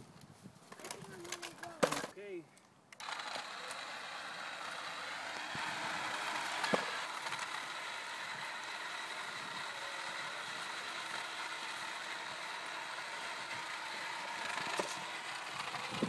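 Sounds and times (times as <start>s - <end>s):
wheels rolling on concrete: 0.0s - 2.2s, 2.9s - 16.0s
electric gear motors whirring: 2.9s - 16.0s.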